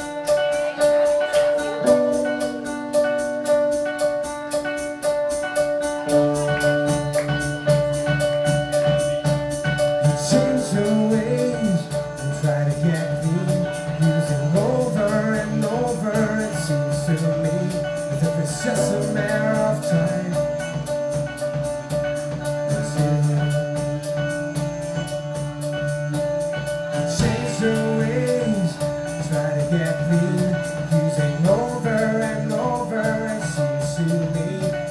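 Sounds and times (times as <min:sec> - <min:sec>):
guitars: 0:00.0 - 0:34.9
live band playing: 0:00.0 - 0:34.9
steady drum beat: 0:00.0 - 0:34.9.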